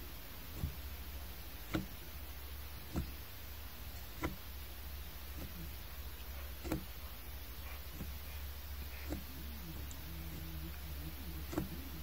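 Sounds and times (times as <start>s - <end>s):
low steady hum: 0.0s - 12.0s
soft regular clicks: 0.0s - 12.0s.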